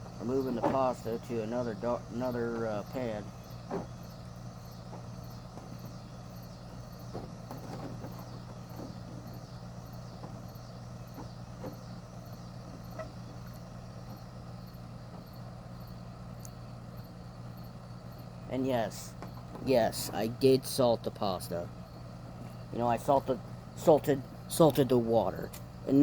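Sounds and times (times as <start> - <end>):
insects chirping: 0.0 - 26.0
steady low hum: 0.0 - 26.0.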